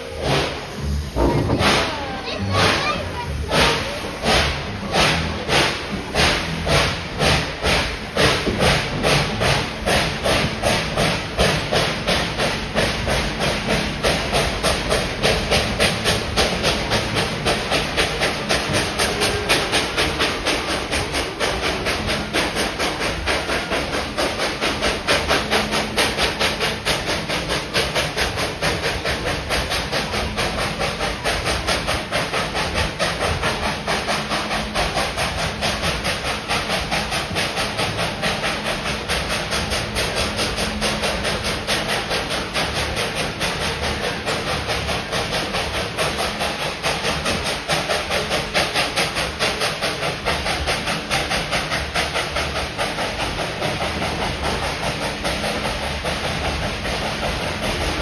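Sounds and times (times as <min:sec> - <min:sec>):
steam hiss: 0:00.0 - 0:58.0
steam locomotive chuffing: 0:00.0 - 0:58.0.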